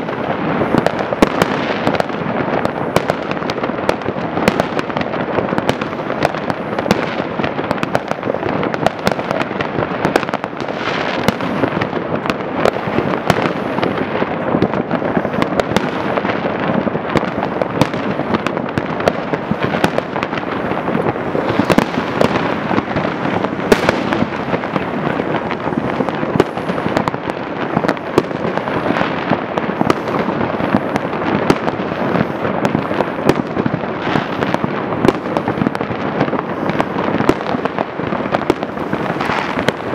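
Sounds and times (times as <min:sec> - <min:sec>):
fireworks barrage of bangs: 0:00.0 - 0:39.9.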